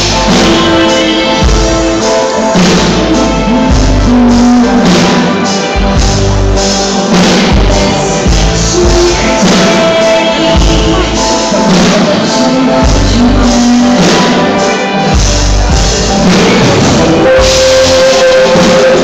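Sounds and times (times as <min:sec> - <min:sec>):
woman singing into microphone: 0:00.0 - 0:05.4, 0:07.1 - 0:15.2, 0:16.0 - 0:19.0
drums: 0:00.0 - 0:19.0
electric guitar: 0:00.0 - 0:19.0
keyboards: 0:00.0 - 0:19.0.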